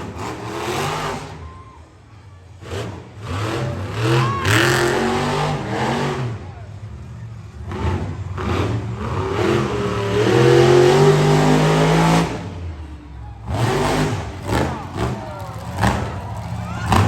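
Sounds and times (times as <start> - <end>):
truck engine revving: 0.0 - 1.4, 2.4 - 17.0.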